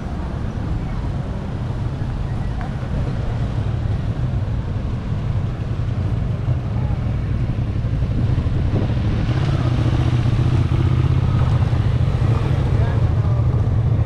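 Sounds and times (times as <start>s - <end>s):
street rumble: 0.0s - 14.0s.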